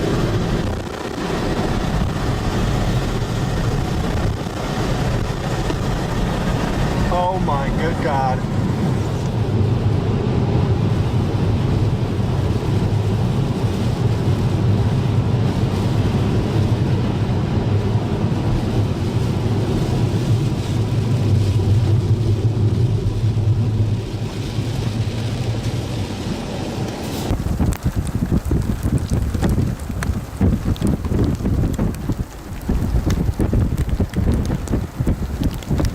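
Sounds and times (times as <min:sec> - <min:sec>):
vehicle rumble: 0:00.0 - 0:35.9
wind noise: 0:00.0 - 0:35.9.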